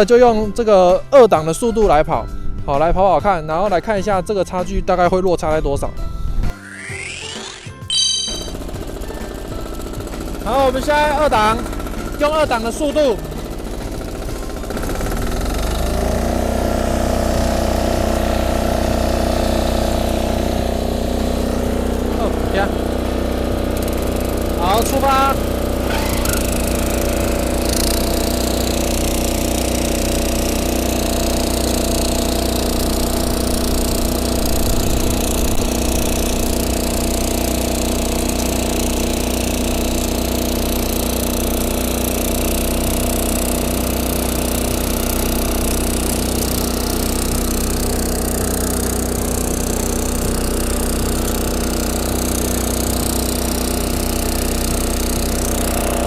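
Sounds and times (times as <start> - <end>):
cultivator engine running: 8.4 - 56.0.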